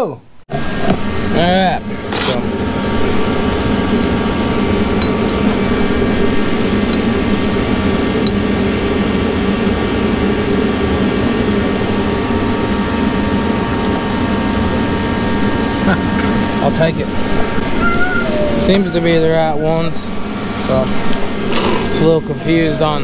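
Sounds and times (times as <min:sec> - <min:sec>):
machine droning: 0:00.0 - 0:23.0.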